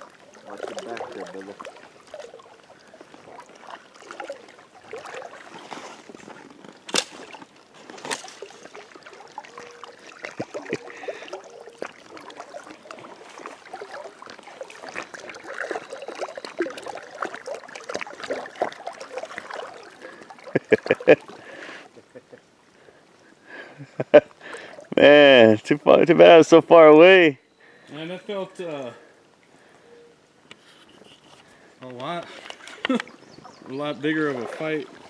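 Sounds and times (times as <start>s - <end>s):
water sloshing and lapping: 0.0s - 25.0s, 30.6s - 35.0s.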